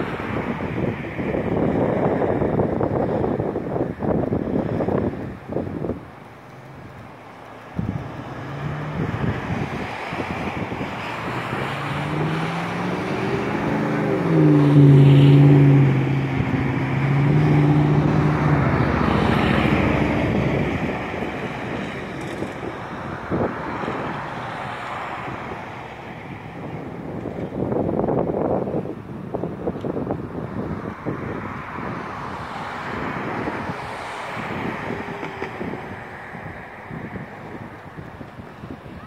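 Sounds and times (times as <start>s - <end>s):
engine passing by: 4.0s - 28.5s, 30.5s - 39.0s.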